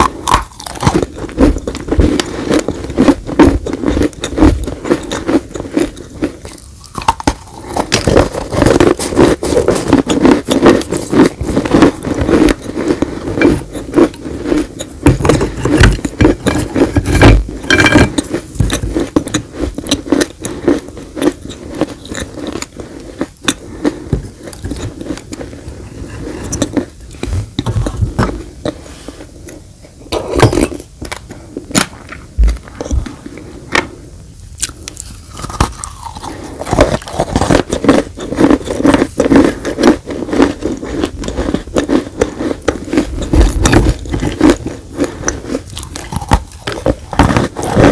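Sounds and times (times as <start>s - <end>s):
chewing crunchy clay: 0.0s - 28.8s, 34.6s - 47.9s.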